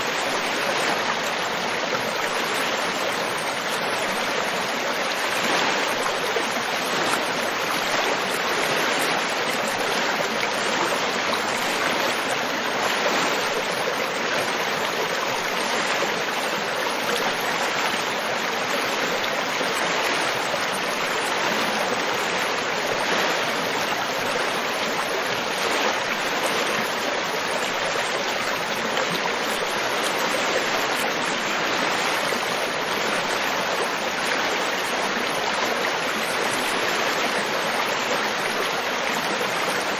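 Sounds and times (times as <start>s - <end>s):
river water flowing and splashing: 0.0s - 39.9s.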